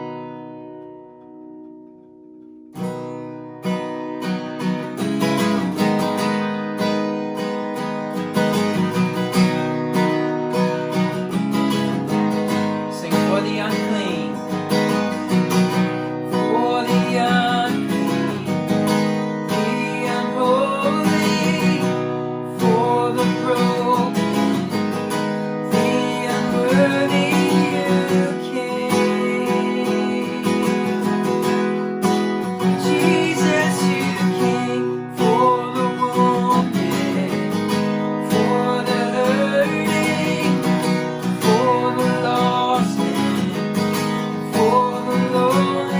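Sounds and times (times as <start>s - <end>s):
strummed acoustic guitar chords: 0.0s - 45.9s.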